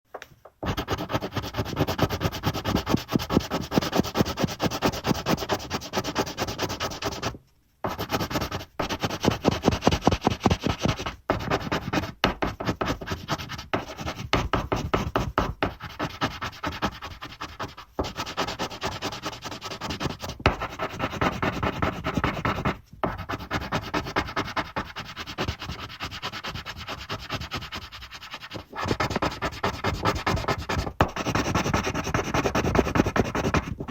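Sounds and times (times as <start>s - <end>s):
pencil shading on paper: 0.6s - 33.9s.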